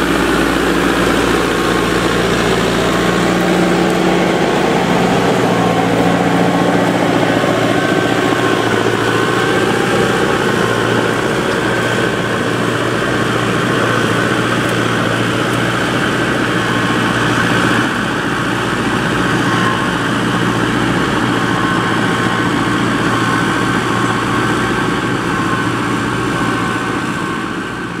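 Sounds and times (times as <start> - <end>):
tractor engine running under load: 0.0 - 28.0.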